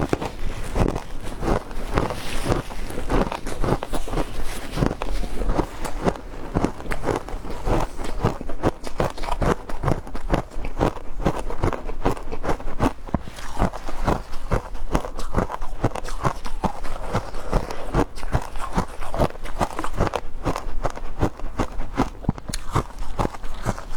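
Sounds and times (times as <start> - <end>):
ice being chewed: 0.0 - 23.9.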